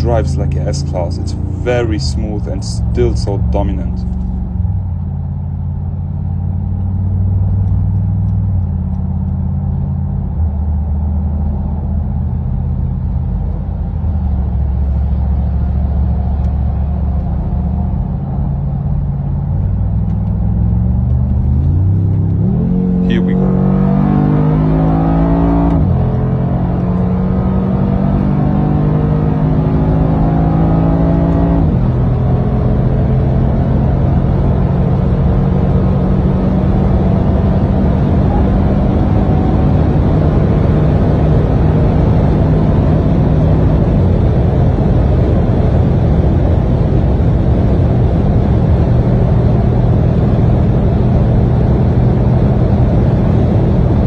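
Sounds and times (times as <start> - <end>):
car engine accelerating hard: 0.0 - 54.0
road and wind noise: 0.0 - 54.0.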